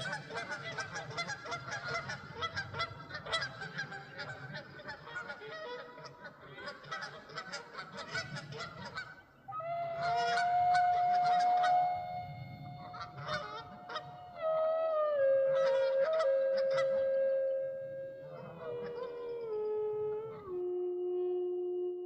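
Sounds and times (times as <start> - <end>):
flock of birds calling: 0.0 - 17.4, 18.2 - 20.4.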